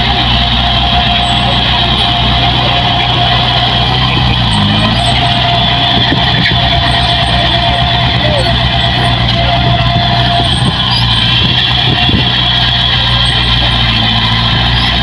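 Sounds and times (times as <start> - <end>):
constant high whine: 0.0 - 15.0
diesel engine of farm machinery: 0.0 - 15.0.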